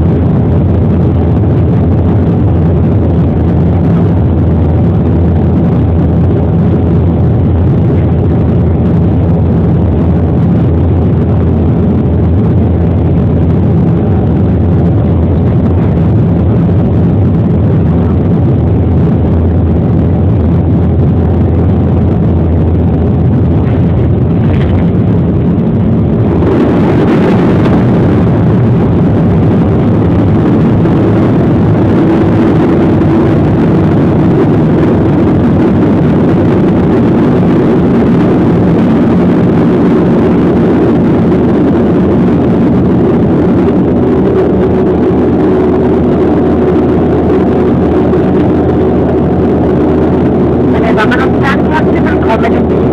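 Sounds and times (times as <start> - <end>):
airliner engines droning in cabin: 0.0 - 52.9
engine reverse thrust rush: 0.0 - 52.9.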